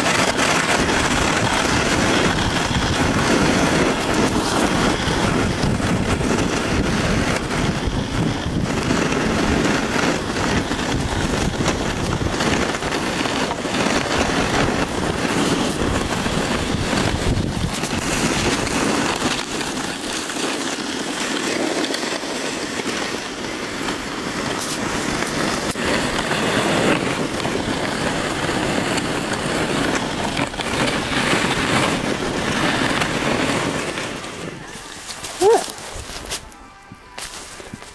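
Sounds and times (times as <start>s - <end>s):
snowshoes crunching in snow: 0.0s - 37.9s
wind buffeting microphone: 0.0s - 37.9s.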